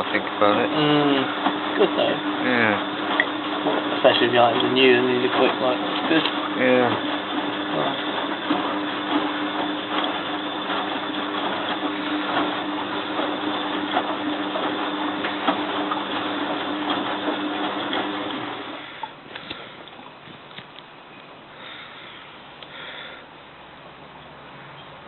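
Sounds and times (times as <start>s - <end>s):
washing machine spinning: 0.0s - 20.5s.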